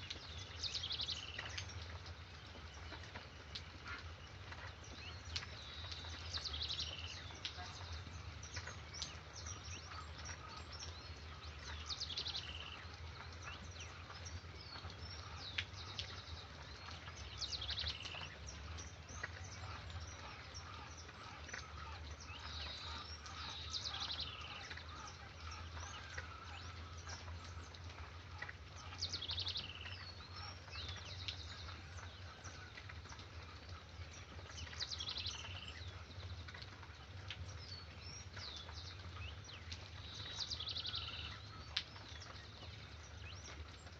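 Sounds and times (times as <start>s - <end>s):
birds chirping: 0.0s - 43.9s
rain hiss: 0.0s - 43.9s
songbird singing: 0.0s - 43.9s.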